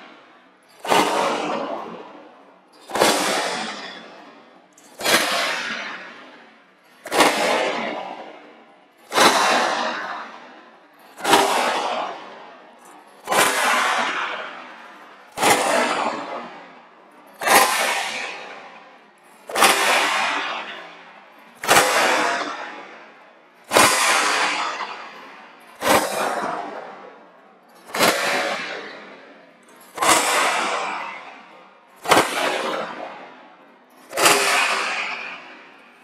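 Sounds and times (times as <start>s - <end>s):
whip cracks with echo: 0.0s - 36.0s.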